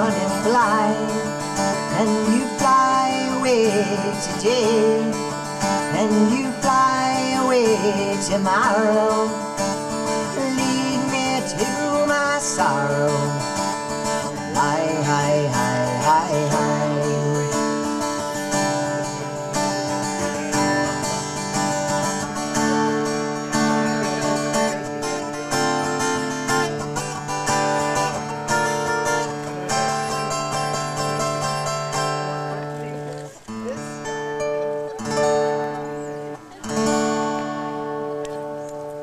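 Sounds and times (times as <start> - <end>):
acoustic guitar playing: 0.0 - 39.0.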